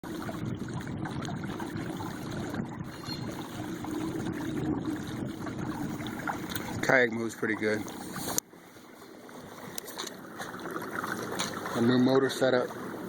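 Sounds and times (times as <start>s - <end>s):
water rushing past hull: 0.0s - 13.0s.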